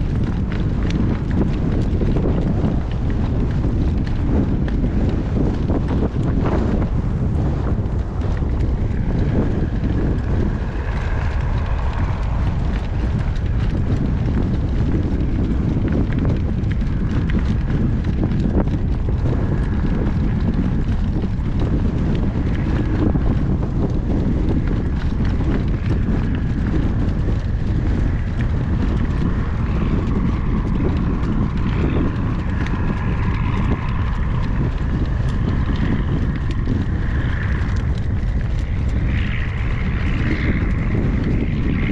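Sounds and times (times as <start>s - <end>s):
horse hoofbeats: 0.0s - 41.9s
wind buffeting microphone: 0.0s - 41.9s.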